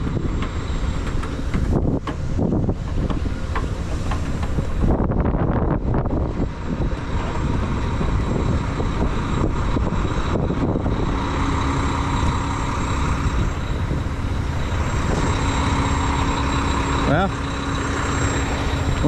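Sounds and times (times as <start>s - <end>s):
steady hum: 0.0s - 19.0s
truck engine idling: 0.0s - 19.0s.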